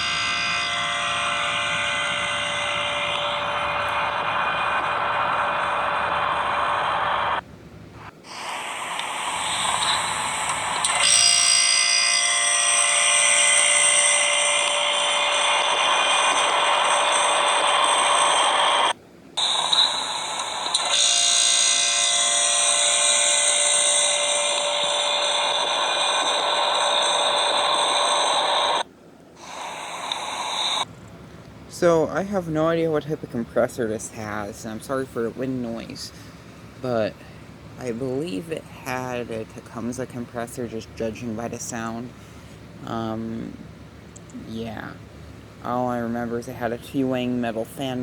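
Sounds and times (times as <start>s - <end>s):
dehumidifier humming with whine: 0.0s - 48.0s.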